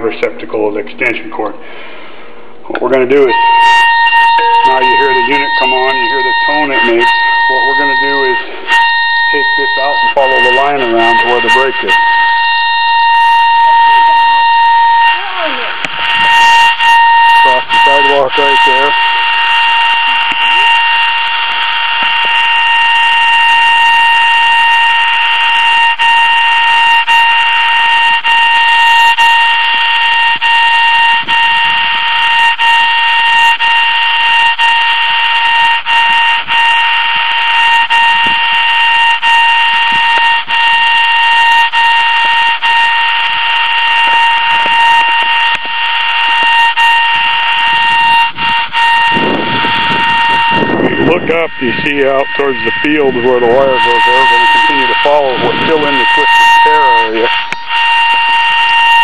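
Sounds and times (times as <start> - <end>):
steady electronic tone: 0.0 - 59.0.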